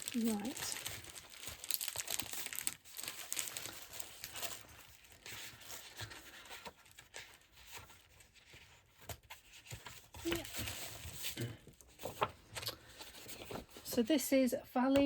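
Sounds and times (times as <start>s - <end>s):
paper and packaging rustling: 0.0s - 15.0s.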